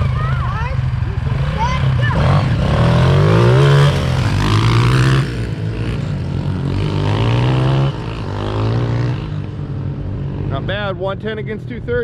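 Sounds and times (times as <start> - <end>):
dirt bike engines accelerating: 0.0 - 12.0.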